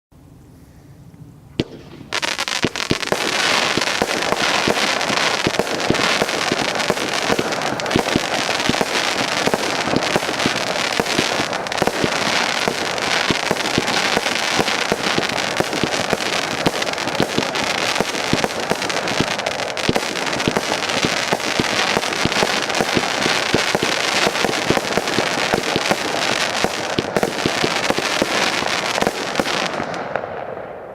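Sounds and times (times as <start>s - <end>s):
rapid firework cracks and pops: 1.6s - 30.7s.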